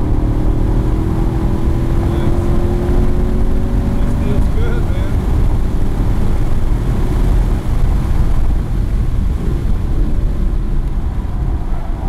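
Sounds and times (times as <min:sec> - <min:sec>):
race car engine: 0:00.0 - 0:12.0
wind noise: 0:00.0 - 0:12.0.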